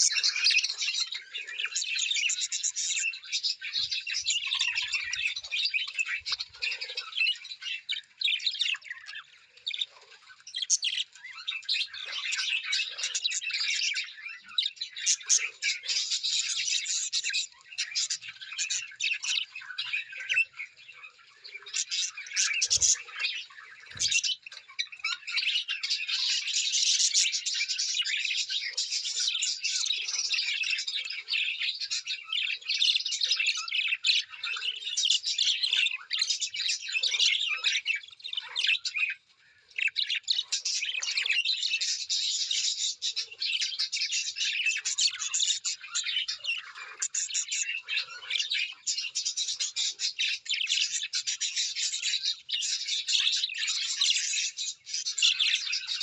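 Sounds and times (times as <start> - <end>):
flock of small birds chirping: 0.0 - 56.0.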